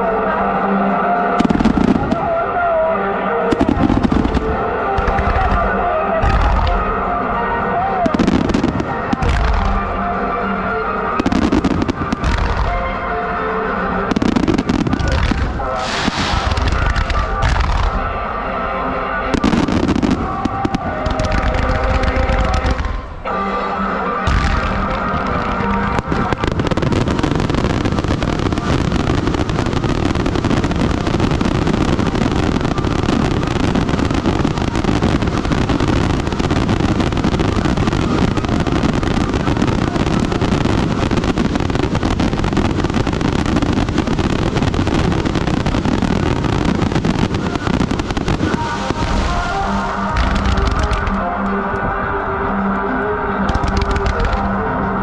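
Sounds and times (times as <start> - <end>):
fireworks bursts and crackling: 0.0 - 18.4, 19.1 - 52.1, 53.3 - 55.0.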